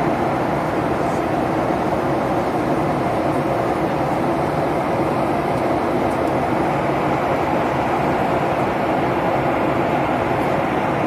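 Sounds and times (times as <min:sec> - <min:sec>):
jet cabin engine rush: 0:00.0 - 0:11.0.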